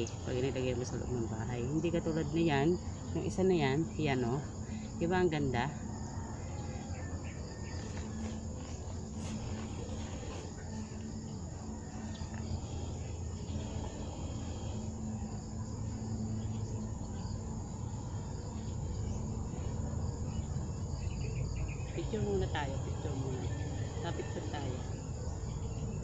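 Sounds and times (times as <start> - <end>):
high-pitched insect trill: 0.0 - 26.0
steady low hum: 0.0 - 26.0.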